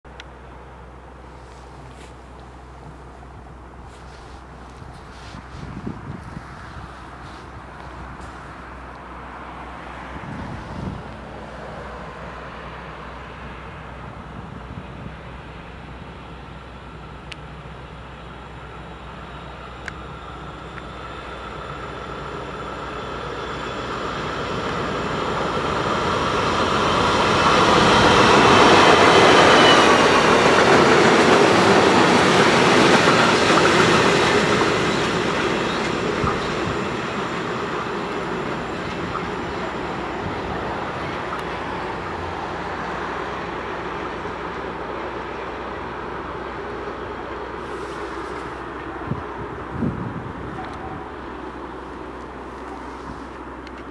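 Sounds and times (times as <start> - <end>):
diesel locomotive engine running: 0.1 - 53.9
train wheels rolling on rails: 0.1 - 53.9.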